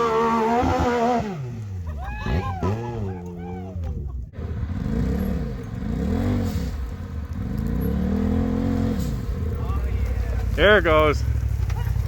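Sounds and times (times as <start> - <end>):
engine revving: 0.0 - 3.7, 4.3 - 11.6.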